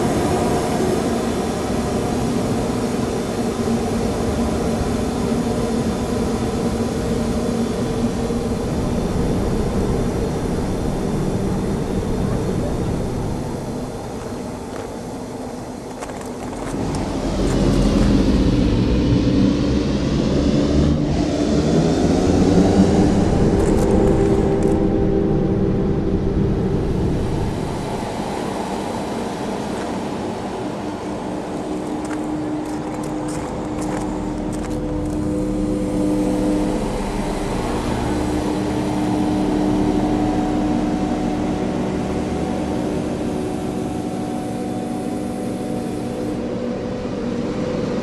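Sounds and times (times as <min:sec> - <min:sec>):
low rumbling roar: 0:00.0 - 0:48.0.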